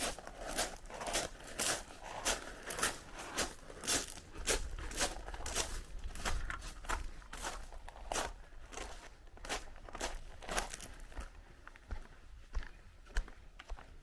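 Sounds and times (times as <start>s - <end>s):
footsteps crunching on loose ground: 0.0s - 14.0s.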